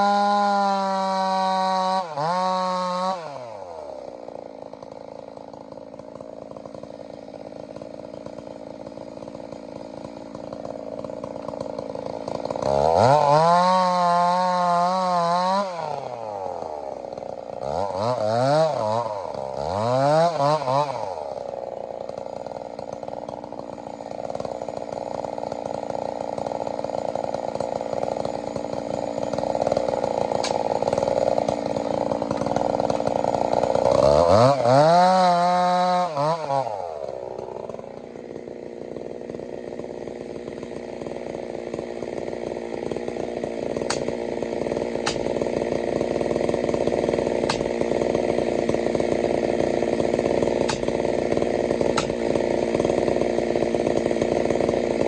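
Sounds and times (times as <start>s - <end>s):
chainsaw cutting and revving: 0.0s - 55.0s.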